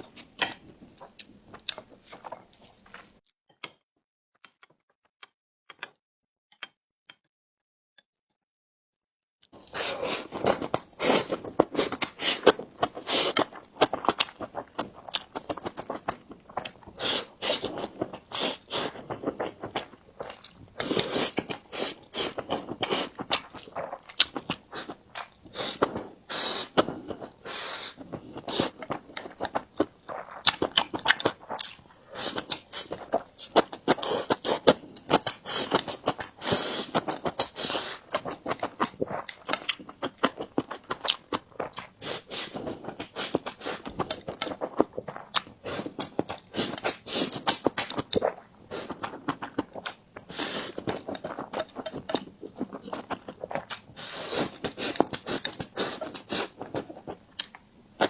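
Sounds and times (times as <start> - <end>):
chewing: 0.0 - 3.1, 9.6 - 57.6.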